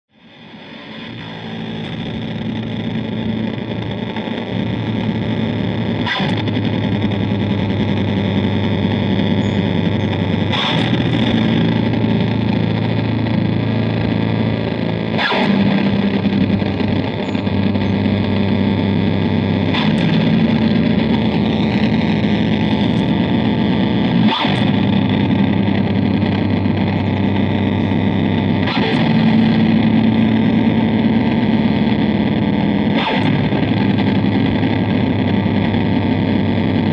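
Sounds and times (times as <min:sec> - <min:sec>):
distorted electric bass drone: 0:00.1 - 0:36.9.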